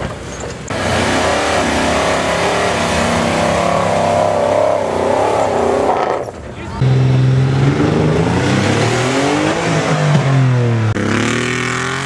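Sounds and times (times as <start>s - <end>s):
engine revving hard: 0.7s - 12.0s.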